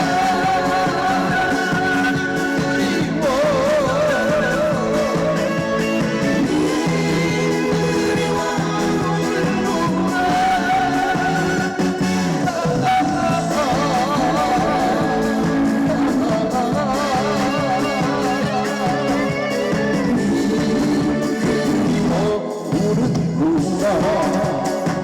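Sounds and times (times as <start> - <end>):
trot song over speakers: 0.0 - 25.0.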